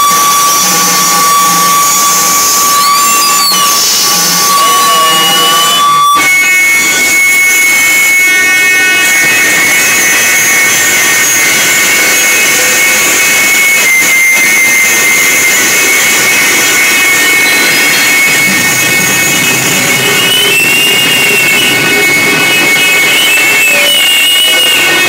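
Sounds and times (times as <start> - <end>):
high whistling tones: 0.0 - 25.0.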